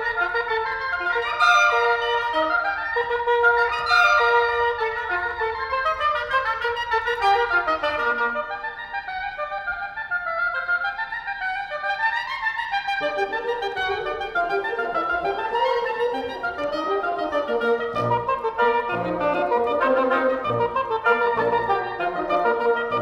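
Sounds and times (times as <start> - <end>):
woodwind ensemble playing: 0.0 - 11.0, 13.0 - 23.0.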